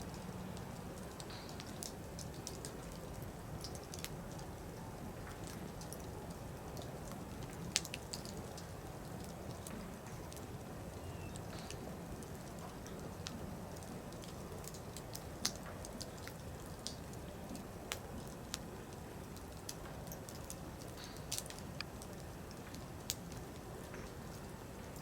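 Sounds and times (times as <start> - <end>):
firewood crackling and popping: 0.1 - 25.0.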